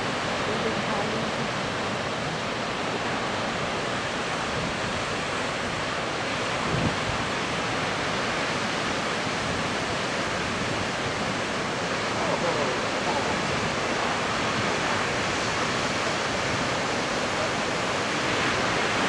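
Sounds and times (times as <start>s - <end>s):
storm surf crashing on rocks: 0.0s - 19.0s.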